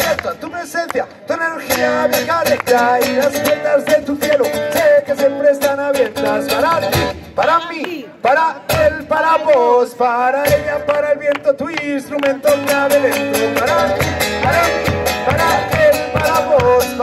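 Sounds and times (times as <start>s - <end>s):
man singing: 0.0s - 17.0s
strummed acoustic guitar: 1.6s - 7.6s, 8.6s - 17.0s.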